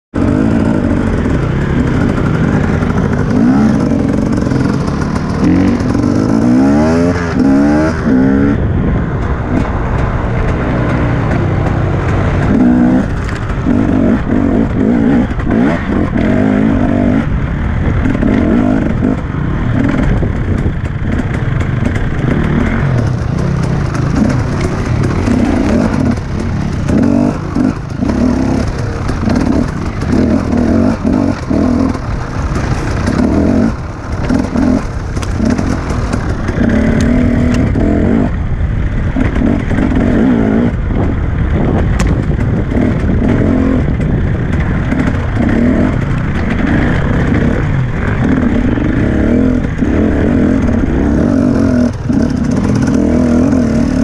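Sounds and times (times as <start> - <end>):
dirt bike engine revving: 0.2 - 54.0.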